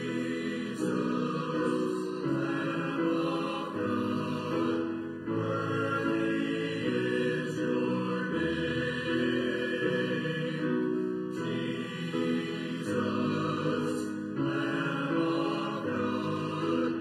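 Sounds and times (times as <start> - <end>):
grand piano: 0.0 - 17.0
men's choir singing: 0.0 - 17.0.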